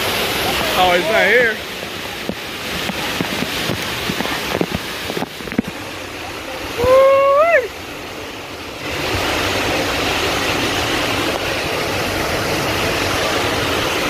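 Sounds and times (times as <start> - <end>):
waterfall rushing and splashing: 0.0 - 14.0.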